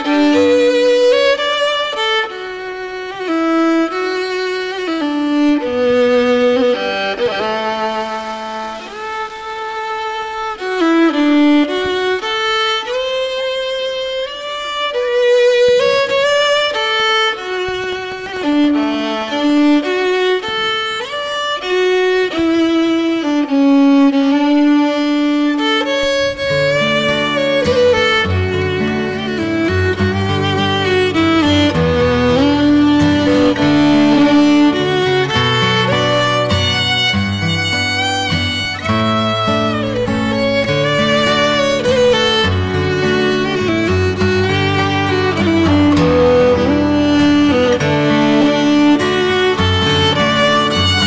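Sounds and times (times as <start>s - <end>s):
lower accompanying notes: 0.0s - 51.0s
solo fiddle melody: 0.0s - 51.0s.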